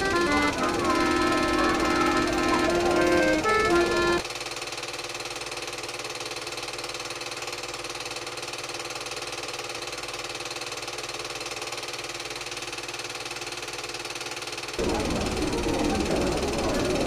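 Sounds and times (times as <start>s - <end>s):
machine running rhythmically: 0.0s - 17.0s.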